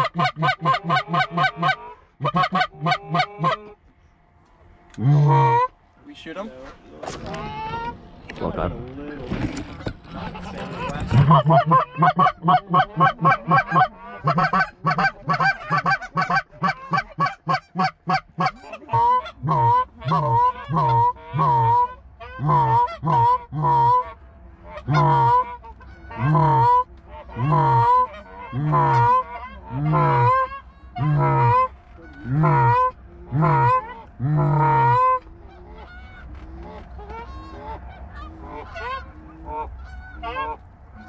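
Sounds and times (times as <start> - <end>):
goose call clucks and honks: 0.0 - 3.8, 4.9 - 5.8, 10.1 - 41.0.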